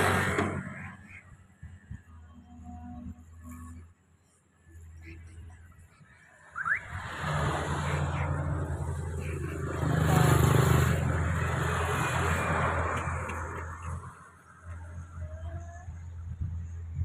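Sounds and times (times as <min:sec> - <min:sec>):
excavator diesel engine running: 0:00.0 - 0:03.1, 0:04.6 - 0:17.0.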